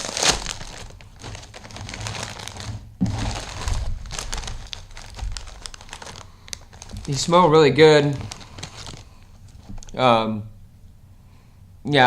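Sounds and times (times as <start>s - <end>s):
chip bag crinkling: 0.0s - 10.0s.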